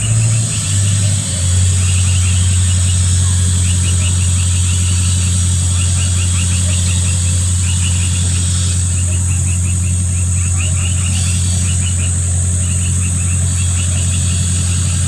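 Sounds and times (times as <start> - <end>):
high-pitched insect whine: 0.0 - 15.0
low engine drone: 0.0 - 15.0.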